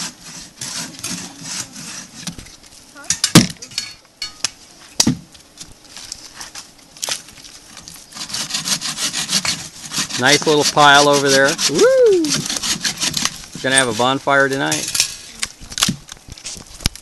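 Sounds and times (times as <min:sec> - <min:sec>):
bow saws rasping through branches: 0:00.0 - 0:03.0, 0:05.9 - 0:16.6.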